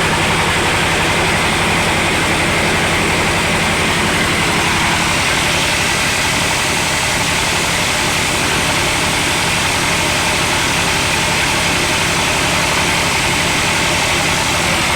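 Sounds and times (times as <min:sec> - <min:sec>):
machine droning: 0:00.0 - 0:14.9.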